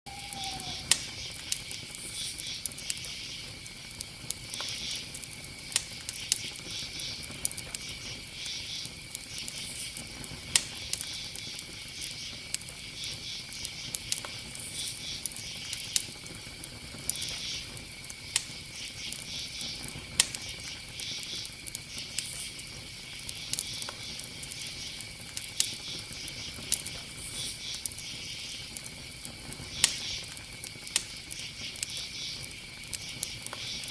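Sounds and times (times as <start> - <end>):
crickets chirping: 0.1 - 33.9
sharp crackles and pops: 0.1 - 33.9.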